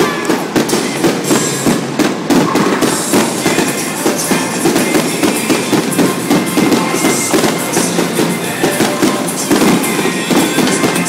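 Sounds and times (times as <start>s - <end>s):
fireworks bursts and crackles: 0.0s - 11.0s
music playing: 0.0s - 11.0s.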